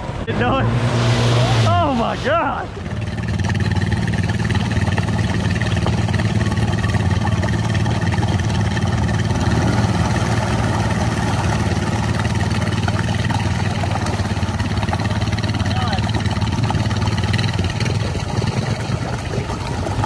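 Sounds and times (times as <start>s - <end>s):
atv engine revving high: 0.0s - 20.0s
tyres spinning in mud: 1.7s - 20.0s.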